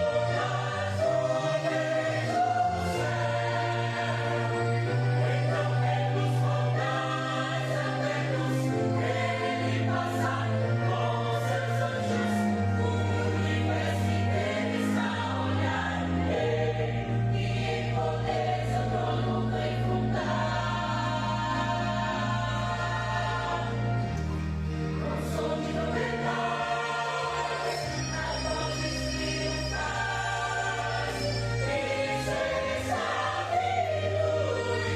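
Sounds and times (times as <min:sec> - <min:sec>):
choir singing gospel music: 0:00.0 - 0:34.9.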